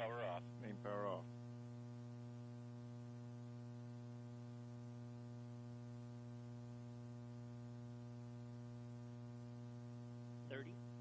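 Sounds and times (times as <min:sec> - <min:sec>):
electrical hum with buzzing: 0:00.0 - 0:11.0.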